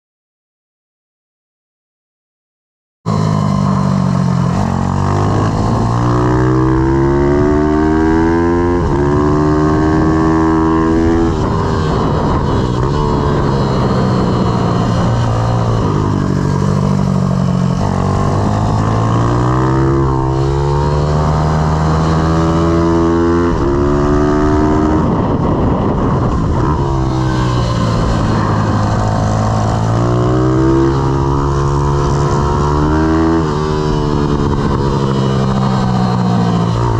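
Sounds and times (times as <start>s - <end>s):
motorbike engine revving: 3.1s - 36.9s.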